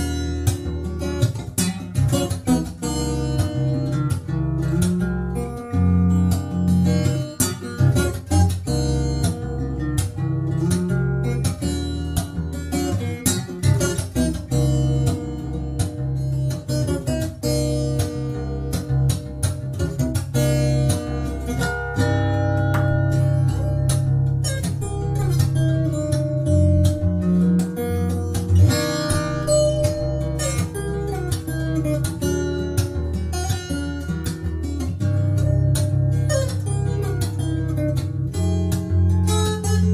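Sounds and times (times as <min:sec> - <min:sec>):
fingerstyle acoustic guitar: 0:00.0 - 0:39.9.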